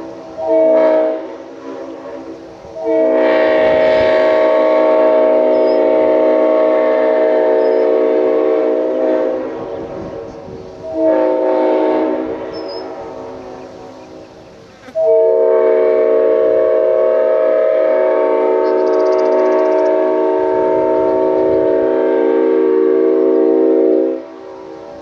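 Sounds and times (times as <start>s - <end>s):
locomotive air horn blasts: 0.0s - 14.2s, 14.8s - 25.0s.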